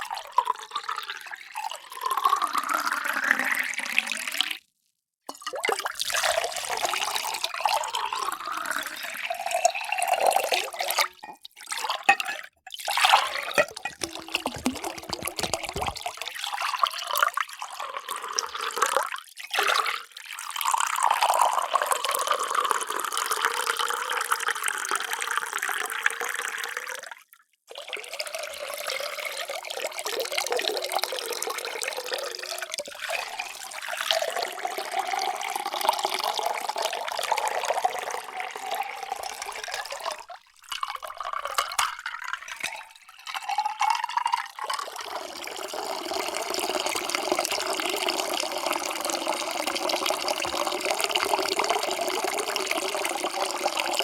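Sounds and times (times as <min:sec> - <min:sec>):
water pouring into container: 0:00.0 - 0:04.6, 0:05.3 - 0:54.0.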